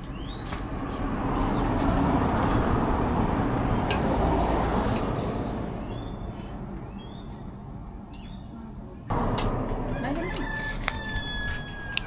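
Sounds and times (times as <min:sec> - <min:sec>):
vehicle passing on road: 0:00.0 - 0:08.0, 0:09.1 - 0:12.0.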